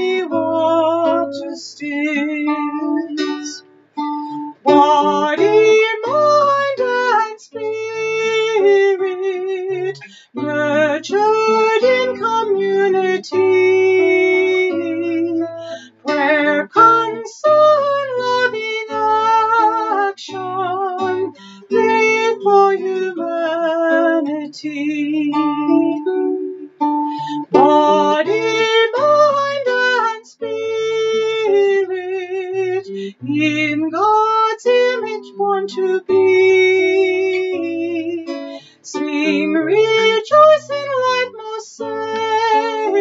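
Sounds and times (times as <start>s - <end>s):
woman singing a hymn: 0.0s - 3.6s, 4.6s - 26.2s, 27.2s - 43.0s
classical guitar playing: 0.0s - 43.0s.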